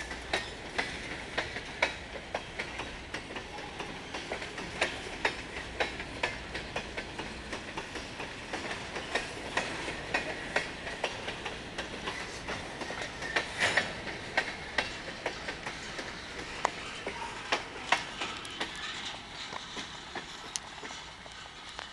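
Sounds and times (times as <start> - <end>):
freight train cars rolling: 0.0 - 21.9
wheels clicking over rail joints: 0.0 - 21.9.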